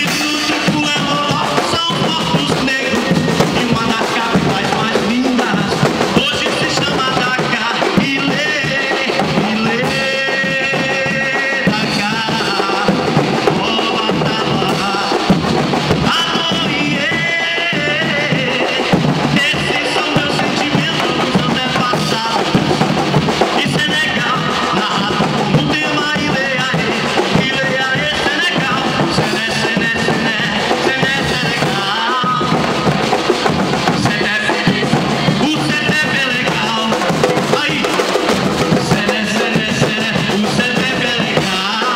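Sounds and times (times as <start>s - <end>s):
bass drums and drums playing rhythm: 0.0s - 41.9s.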